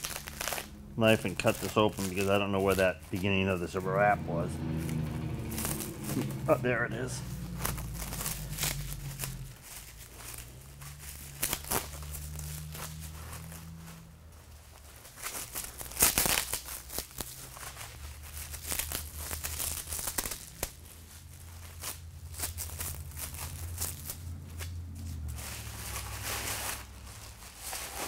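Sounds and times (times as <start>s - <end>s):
low steady hum: 0.0s - 28.0s
plastic wrap crinkling: 0.0s - 28.0s.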